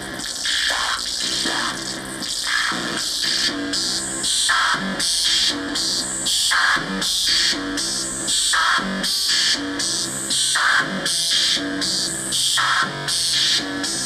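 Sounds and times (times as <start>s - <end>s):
stepped synthesizer tones: 0.0s - 14.0s.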